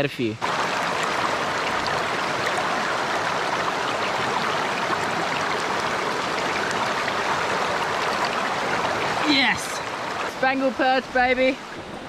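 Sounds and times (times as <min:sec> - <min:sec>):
water rushing over rocks: 0:00.4 - 0:12.0.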